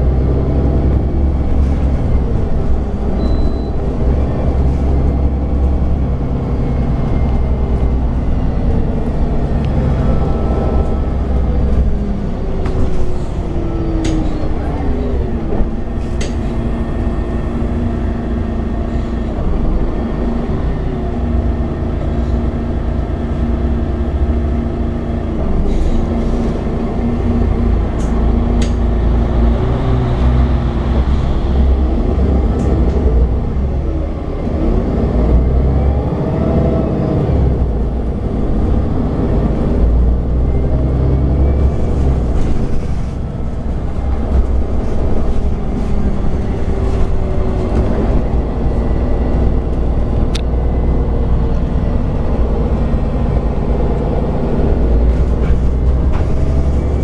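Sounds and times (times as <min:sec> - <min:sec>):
bus diesel engine humming: 0:00.0 - 0:57.0.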